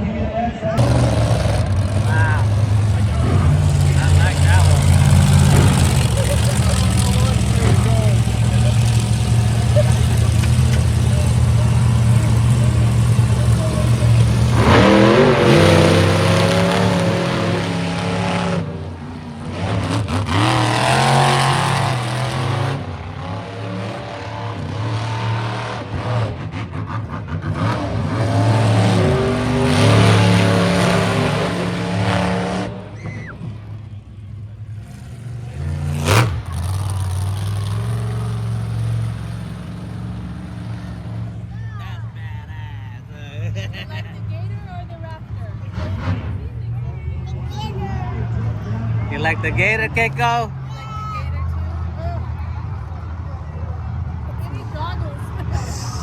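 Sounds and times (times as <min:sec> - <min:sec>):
monster truck engines revving: 0:00.0 - 0:56.0.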